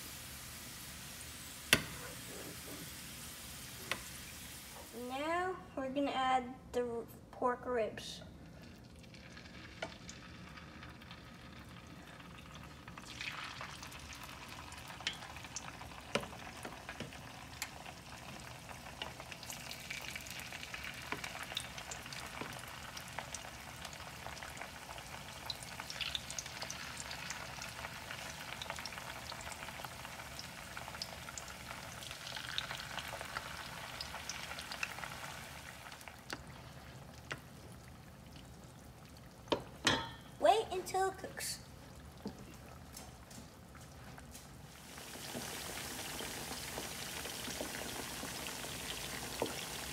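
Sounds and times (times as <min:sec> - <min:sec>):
meat sizzling in hot oil: 0:00.0 - 0:05.0, 0:08.5 - 0:39.8, 0:44.4 - 0:49.9.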